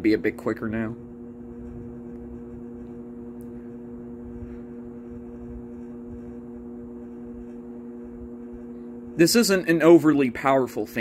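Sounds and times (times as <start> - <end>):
electric fan running: 0.0 - 11.0.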